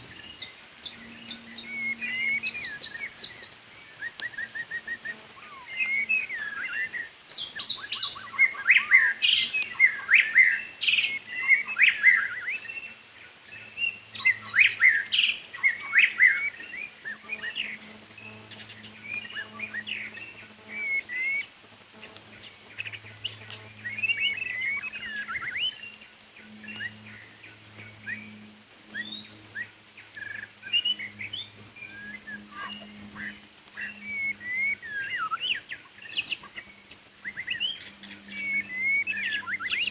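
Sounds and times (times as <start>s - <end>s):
bird singing whistles: 0.2s - 12.9s, 13.6s - 25.9s, 27.9s - 39.9s.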